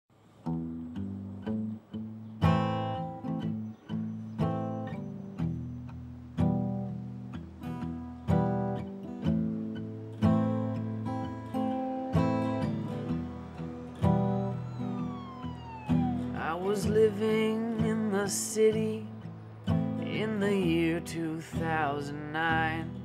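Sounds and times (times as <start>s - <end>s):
acoustic guitar strumming: 0.4s - 23.0s.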